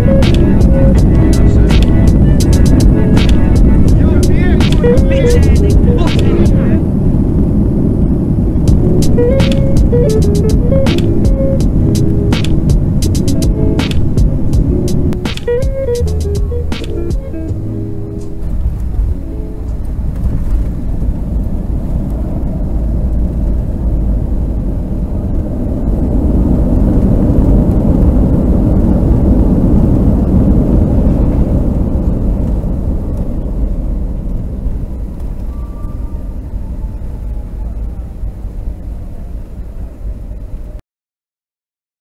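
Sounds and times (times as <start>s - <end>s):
jet engines roaring: 0.0s - 40.6s
runway rumble: 0.0s - 40.8s.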